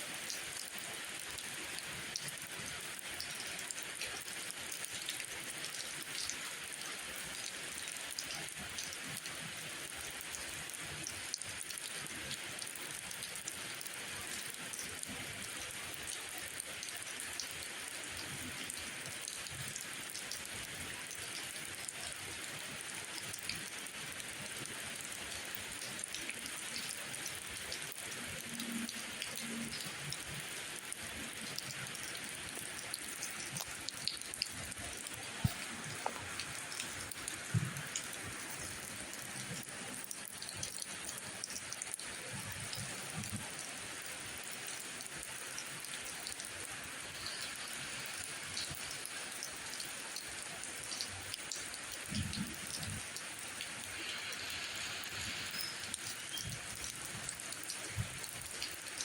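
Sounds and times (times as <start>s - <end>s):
rain falling: 0.0s - 59.0s
rain drop ticks: 0.3s - 59.0s.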